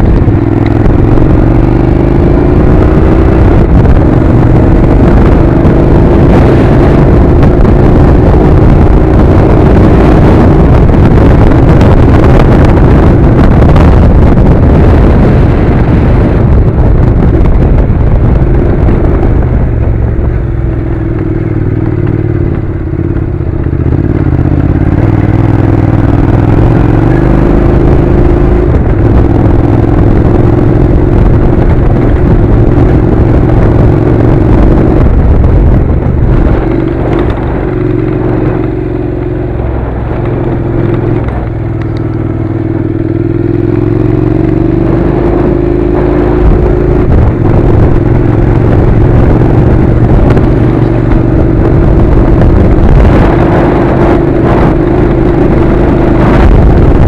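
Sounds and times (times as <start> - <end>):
motorcycle engine running: 0.0 - 57.0
wind rush: 0.0 - 57.0.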